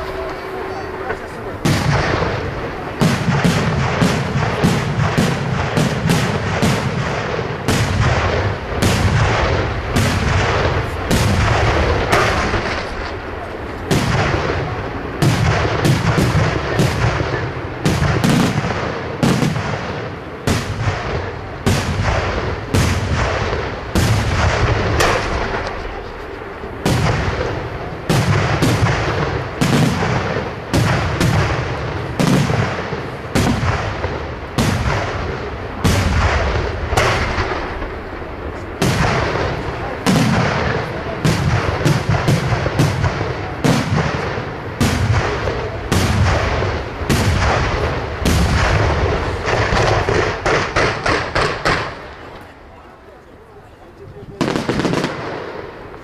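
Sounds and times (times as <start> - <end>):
firework shells bursting: 0.0 - 52.6.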